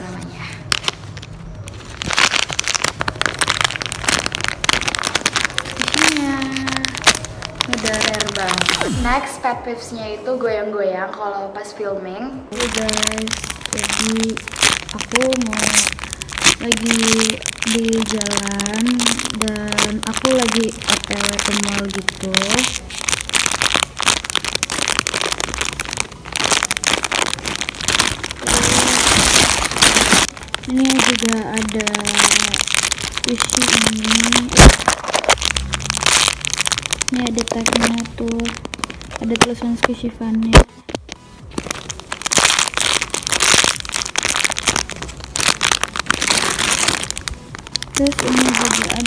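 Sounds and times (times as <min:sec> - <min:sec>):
plastic bags crinkling: 0:00.2 - 0:09.2, 0:12.5 - 0:49.0.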